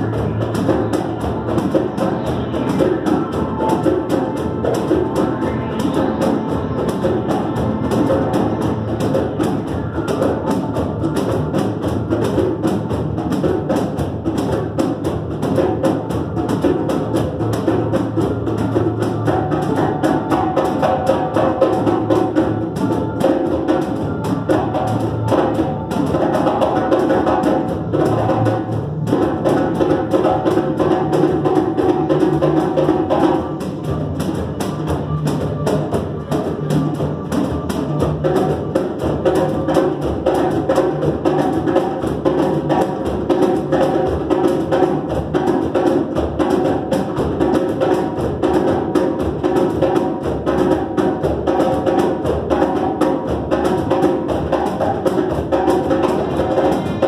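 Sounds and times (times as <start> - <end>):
barrel drum beaten: 0.0 - 57.0.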